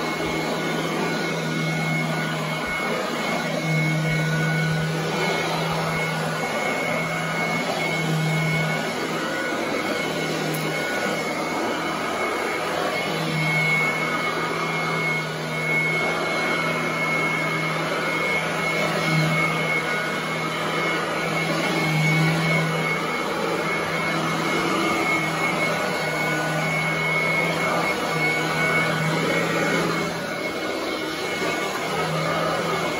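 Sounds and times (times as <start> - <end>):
vacuum cleaner running on carpet: 0.0 - 32.9.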